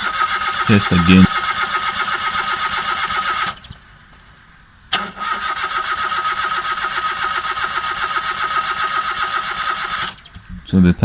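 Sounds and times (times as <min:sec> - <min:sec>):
starter motor cranking engine: 0:00.0 - 0:10.7.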